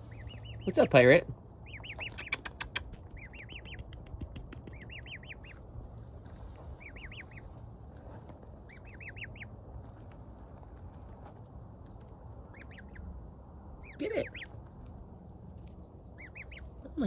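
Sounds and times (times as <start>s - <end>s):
gosling peeping: 0.0s - 10.1s, 12.3s - 13.2s, 13.8s - 17.0s.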